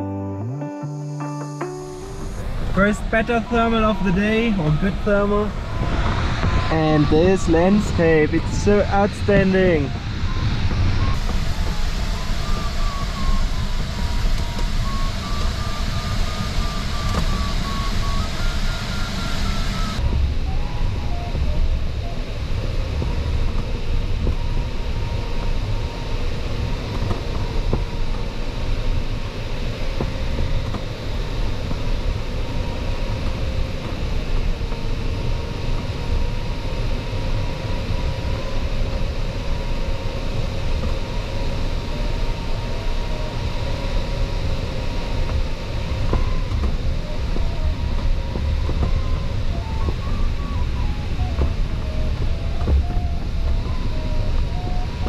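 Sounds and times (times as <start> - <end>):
variometer electronic tone: 0.0 - 55.0
airflow rushing in cockpit: 1.6 - 55.0.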